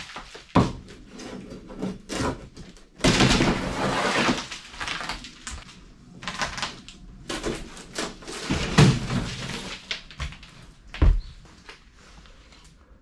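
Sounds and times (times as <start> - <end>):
wooden boards cracking and scraping: 0.0 - 11.1.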